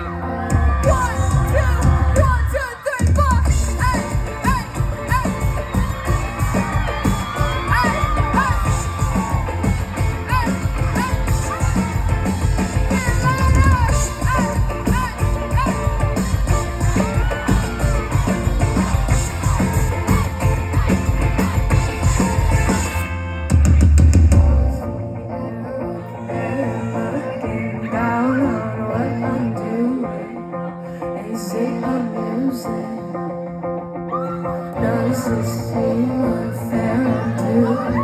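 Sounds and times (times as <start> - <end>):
crowd singing along: 0.0 - 23.5, 24.6 - 38.0
crowd whooping: 0.0 - 30.1, 34.1 - 38.0
live pop-rock band: 0.0 - 38.0.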